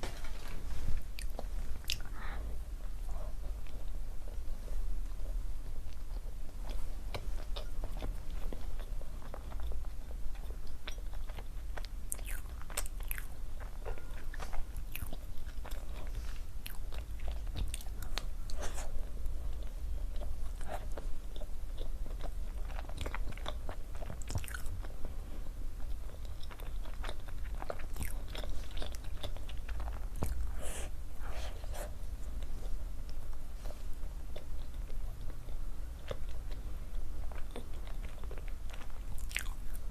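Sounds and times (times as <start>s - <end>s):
steady low hum: 0.0s - 39.9s
person chewing food: 5.1s - 39.9s.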